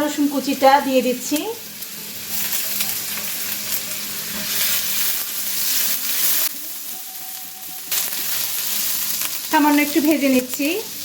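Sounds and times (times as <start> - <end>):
ginger and garlic sizzling in oil: 0.0 - 11.0.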